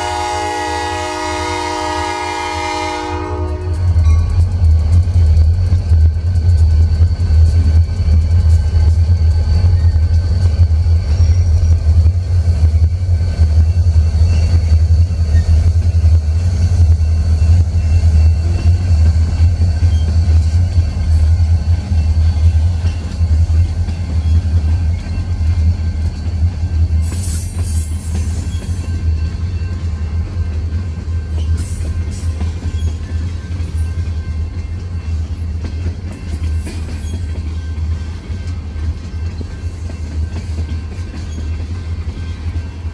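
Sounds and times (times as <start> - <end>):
train cars rumbling on rails: 0.0 - 42.9.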